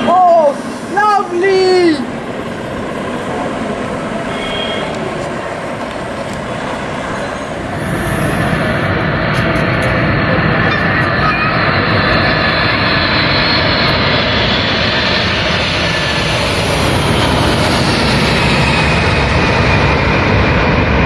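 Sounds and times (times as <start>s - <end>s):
jet engines passing overhead: 0.0s - 21.0s.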